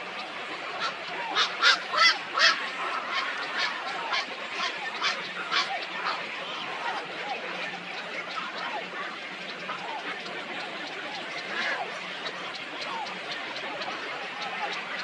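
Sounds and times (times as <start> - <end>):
background bird chatter: 0.0 - 15.0.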